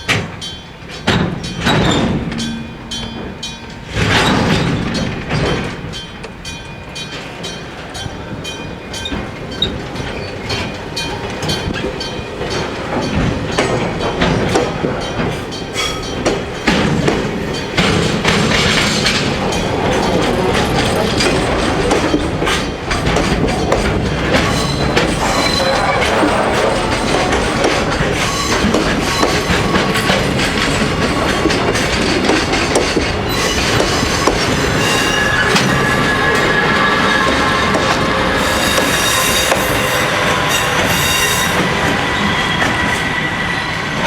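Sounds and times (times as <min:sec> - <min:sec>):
train wheel squeal: 0:00.0 - 0:44.0
train wheels clattering over rails: 0:00.0 - 0:44.0.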